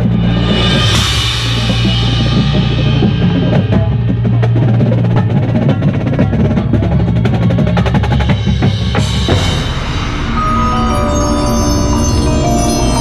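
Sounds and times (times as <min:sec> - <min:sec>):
marimbas and xylophones: 0:00.0 - 0:13.0.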